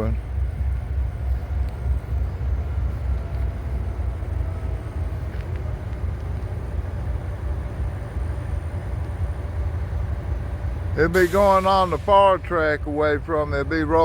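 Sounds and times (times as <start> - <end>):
diesel locomotives rumbling: 0.0 - 14.0.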